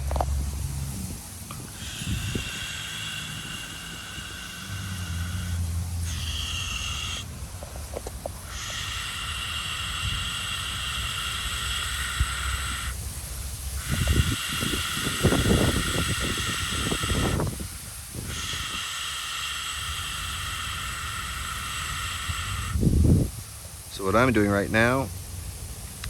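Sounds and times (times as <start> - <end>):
high hissing buzz: 0.0 - 26.0
wind rumbling on microphone: 0.0 - 26.0.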